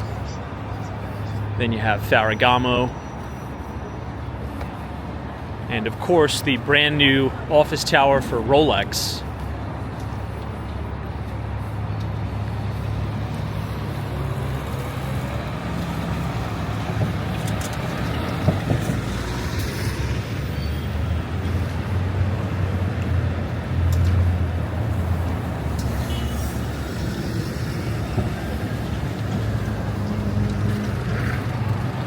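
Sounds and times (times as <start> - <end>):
traffic engines rumbling: 0.0 - 32.0
heavy vehicle passing: 4.8 - 32.0.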